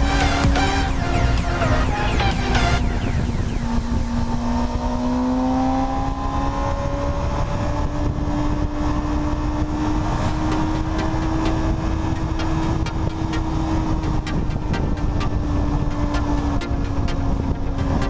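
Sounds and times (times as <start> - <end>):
wind rush on microphone: 2.8 - 18.0.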